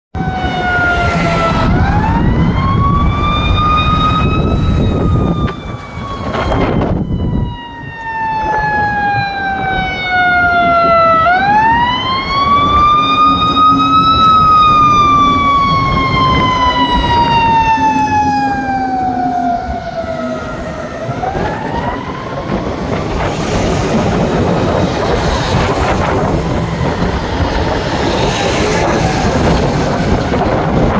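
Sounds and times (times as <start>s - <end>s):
fire engine siren wailing: 0.2s - 30.9s
road noise: 0.2s - 30.9s.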